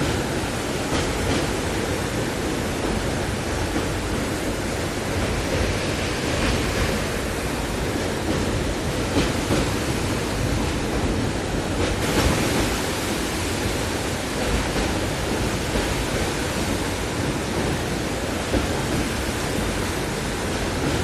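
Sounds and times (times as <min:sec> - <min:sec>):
train rushing through water: 0:00.0 - 0:21.0.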